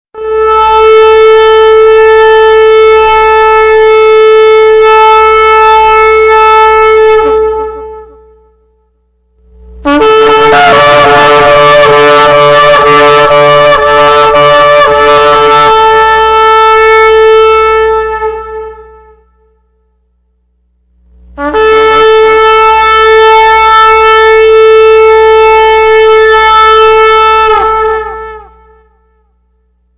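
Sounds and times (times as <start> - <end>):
shofar blasts: 0.2 - 8.6, 9.8 - 19.7, 21.4 - 29.4.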